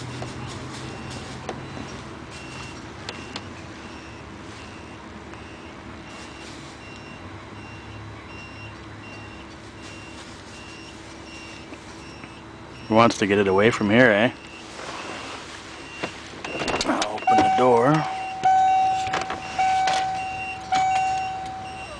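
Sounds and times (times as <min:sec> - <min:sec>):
low engine rumble: 0:00.0 - 0:21.9
vehicle reversing alarm beeping: 0:00.3 - 0:21.9.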